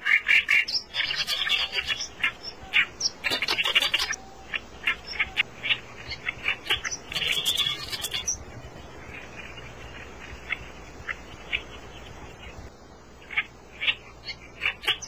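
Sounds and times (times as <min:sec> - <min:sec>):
nestlings chirping: 0:00.0 - 0:15.0.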